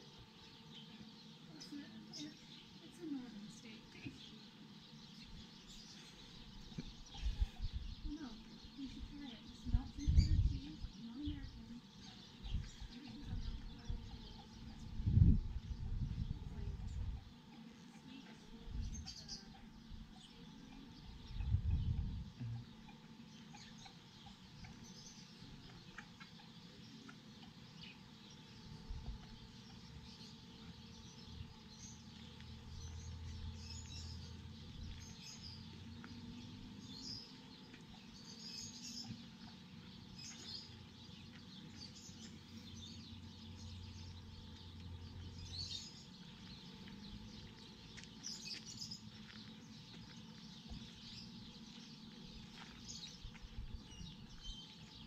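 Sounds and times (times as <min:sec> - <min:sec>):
faint high bird chirps: 0:00.0 - 0:55.0
low steady hum: 0:00.0 - 0:55.0.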